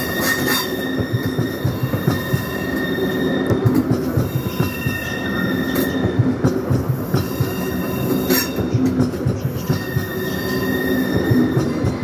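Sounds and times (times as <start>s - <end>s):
high wheel squeal: 0.0s - 6.4s, 7.0s - 12.0s
train rumble: 0.0s - 12.0s
train wheels knocking over rail joints: 0.0s - 12.0s.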